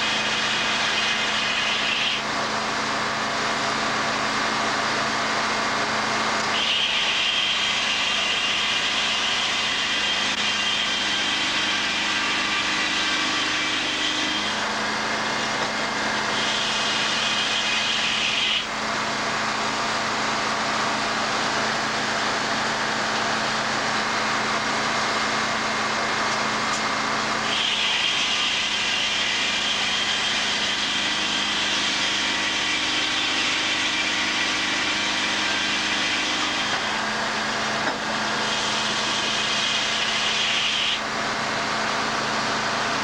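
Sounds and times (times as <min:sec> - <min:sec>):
saw blade whine: 0:00.0 - 0:43.0
sawmill machine drone: 0:00.0 - 0:43.0.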